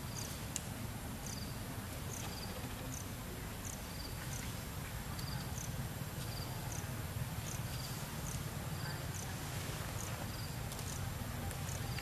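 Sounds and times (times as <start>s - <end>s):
insects chirping: 0.0s - 0.5s, 1.2s - 12.0s
steady outdoor hiss: 0.0s - 12.0s.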